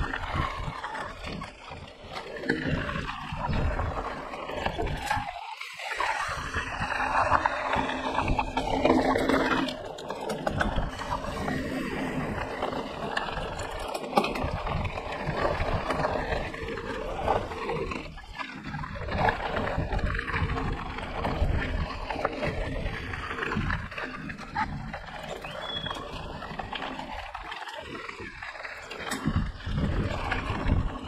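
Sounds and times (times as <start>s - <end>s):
bike knocking and rattling: 0.0s - 5.6s, 6.3s - 31.0s
bike tyre noise: 0.0s - 31.0s
wind buffeting microphone: 0.0s - 31.0s.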